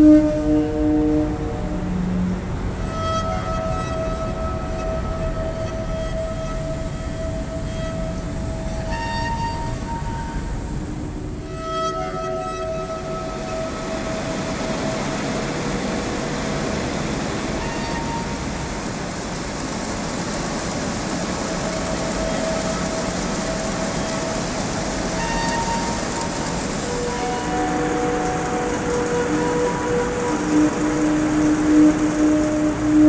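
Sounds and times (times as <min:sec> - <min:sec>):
long held musical notes: 0:00.0 - 0:33.0
thread-winding machines running: 0:00.0 - 0:33.0.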